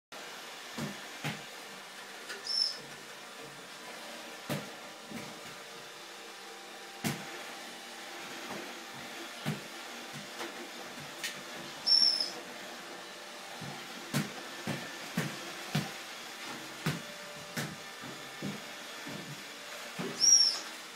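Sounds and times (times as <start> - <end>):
robot vacuum motor and brush hum: 0.2 - 20.9.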